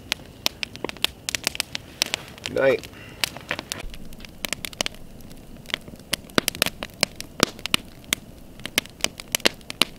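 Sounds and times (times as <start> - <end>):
campfire crackling and popping: 0.0 - 9.9
faint hiss of burning: 0.0 - 9.9.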